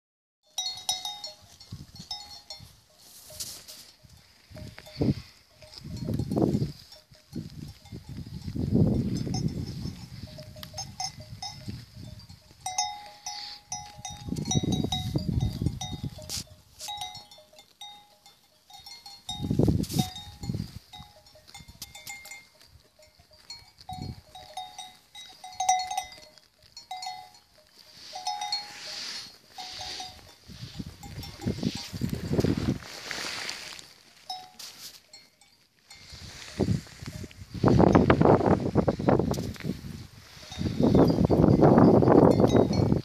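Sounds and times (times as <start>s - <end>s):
sheep bells clanking: 0.4s - 32.4s, 33.6s - 38.2s, 40.3s - 43.0s.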